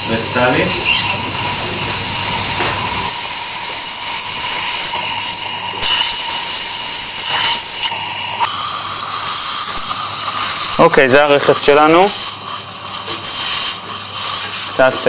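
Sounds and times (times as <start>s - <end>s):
suction hissing: 0.0s - 15.0s.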